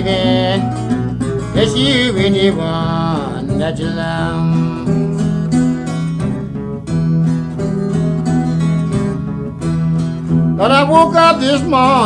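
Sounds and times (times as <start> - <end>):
acoustic blues guitar strumming: 0.0 - 12.0.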